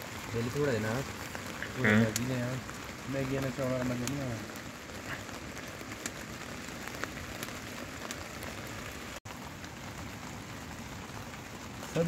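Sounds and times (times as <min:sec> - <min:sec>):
rain on a tarpaulin: 0:00.0 - 0:12.0.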